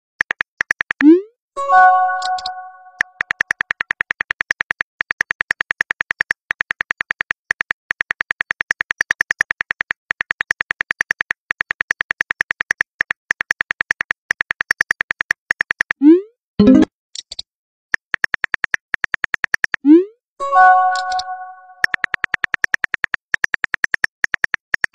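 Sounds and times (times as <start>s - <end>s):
phone keyboard clicks: 0.2s - 1.1s, 2.1s - 16.0s, 18.0s - 19.8s, 20.9s - 24.9s.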